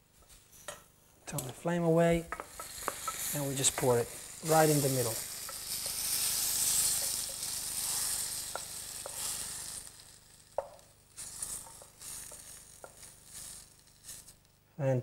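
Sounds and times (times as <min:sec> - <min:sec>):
food sizzling in frying pan: 0:02.1 - 0:14.6.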